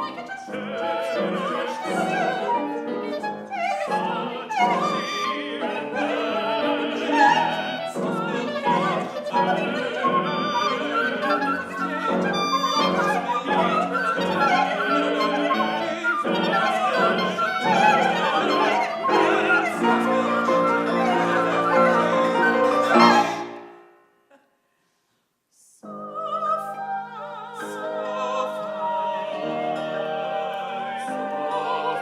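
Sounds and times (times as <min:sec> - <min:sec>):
operatic vocal quartet singing: 0:00.0 - 0:23.7, 0:25.8 - 0:32.0
chamber ensemble playing: 0:00.0 - 0:23.9, 0:26.7 - 0:32.0.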